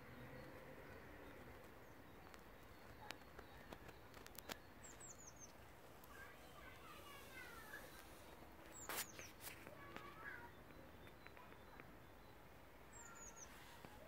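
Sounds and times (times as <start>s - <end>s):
high falling bird chirps: 0.1s - 14.0s.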